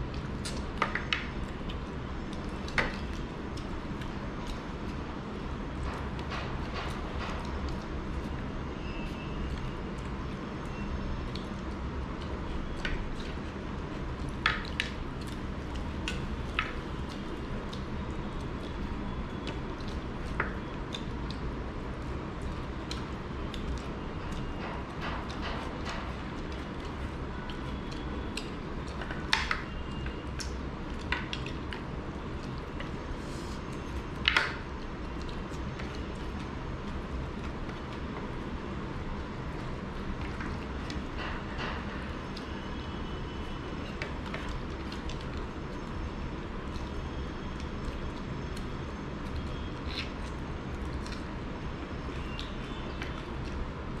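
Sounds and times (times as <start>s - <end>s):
chewing and lip smacking: 0.0s - 54.0s
wet squishy eating sounds: 0.0s - 54.0s.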